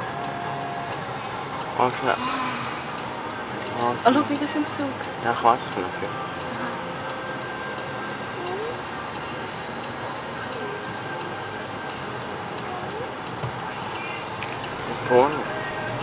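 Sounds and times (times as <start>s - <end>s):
faint regular ticking: 0.0s - 16.0s.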